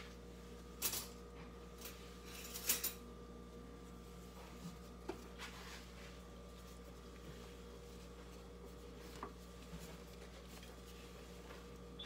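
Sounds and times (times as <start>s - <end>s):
faint electrical hum: 0.0s - 12.0s
rustling handling noises: 0.0s - 12.0s.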